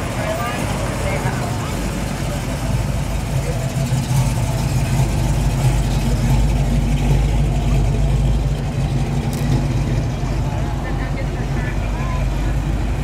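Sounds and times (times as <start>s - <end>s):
car engine rumbling past: 0.0s - 13.0s.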